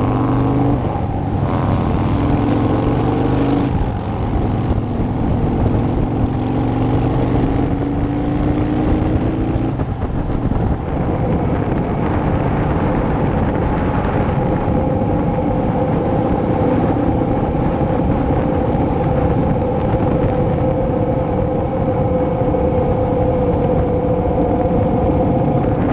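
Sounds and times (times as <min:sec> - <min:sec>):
motorcycle engine running: 0:00.0 - 0:25.9
wind rushing over microphone: 0:00.0 - 0:25.9.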